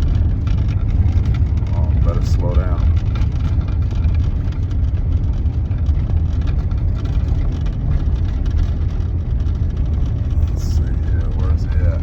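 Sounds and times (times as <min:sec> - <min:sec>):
truck engine and tyre rumble: 0:00.0 - 0:12.0.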